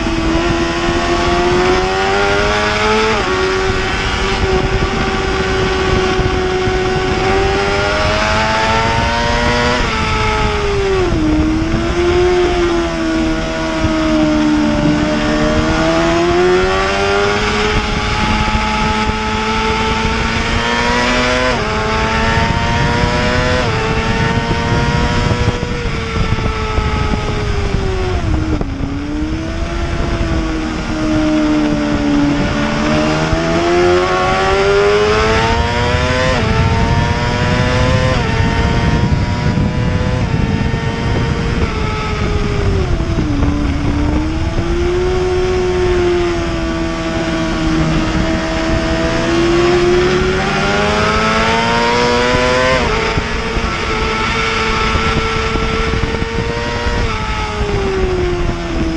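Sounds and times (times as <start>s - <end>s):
motorcycle engine under hard throttle: 0.0s - 58.9s.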